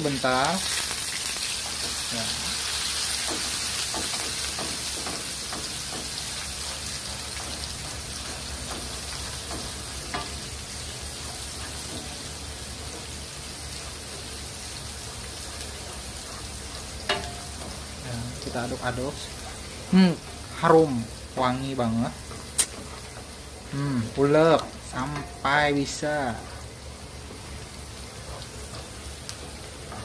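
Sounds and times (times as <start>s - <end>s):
shallots and garlic sizzling: 0.0s - 30.0s.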